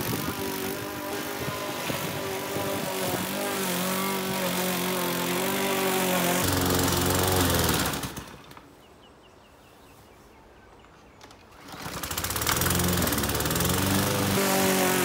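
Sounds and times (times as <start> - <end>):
lawn mower engine: 0.0 - 8.8, 11.2 - 15.0.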